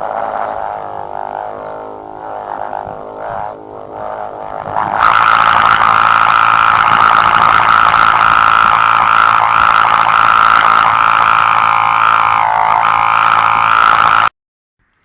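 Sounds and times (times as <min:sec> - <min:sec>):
tape line humming in wind: 0:00.0 - 0:14.3.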